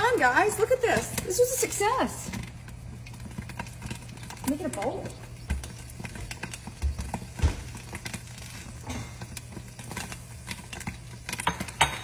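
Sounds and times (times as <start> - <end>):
popcorn popping in covered pan: 0.0 - 12.0.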